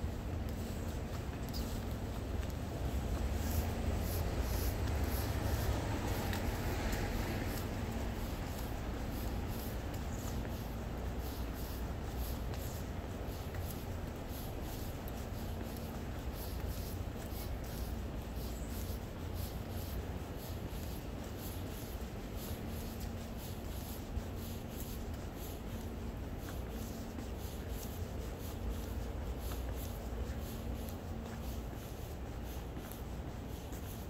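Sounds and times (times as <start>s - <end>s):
footsteps on sidewalk: 0.0s - 34.0s
street traffic hum: 0.0s - 34.0s.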